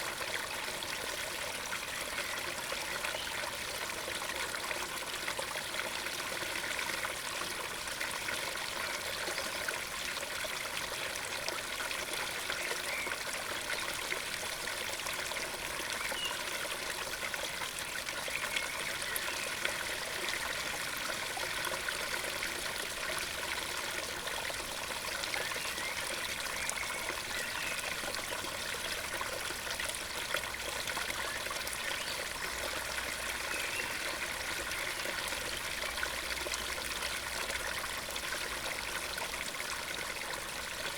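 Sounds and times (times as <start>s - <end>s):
stream rushing into pond: 0.0s - 40.9s.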